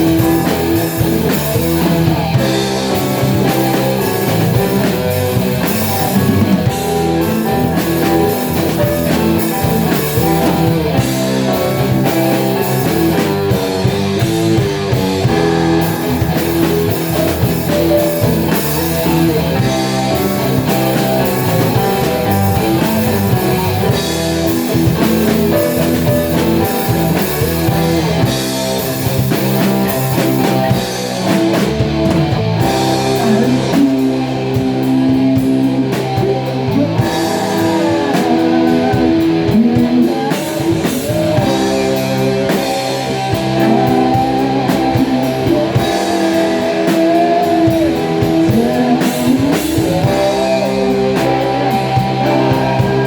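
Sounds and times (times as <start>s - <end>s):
rock band playing instrumental: 0.0s - 53.0s.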